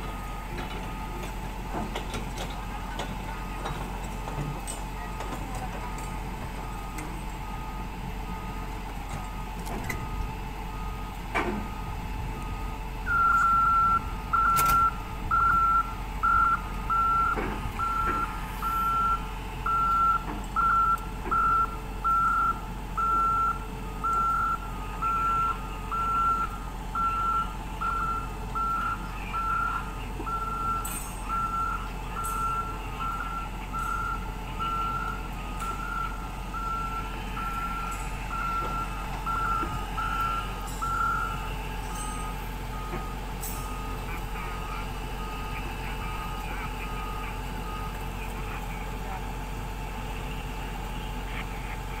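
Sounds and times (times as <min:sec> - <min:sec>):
backup alarm beeping: 0:02.6 - 0:49.0.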